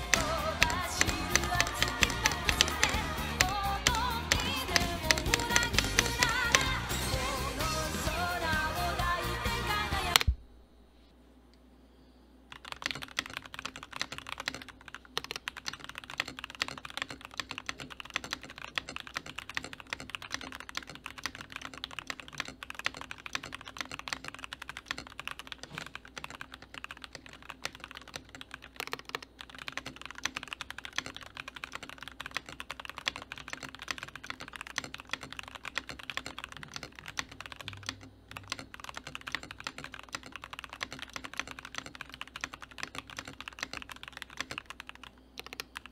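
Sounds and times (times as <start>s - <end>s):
fast mechanical keyboard typing: 0.0s - 8.6s, 12.5s - 45.9s.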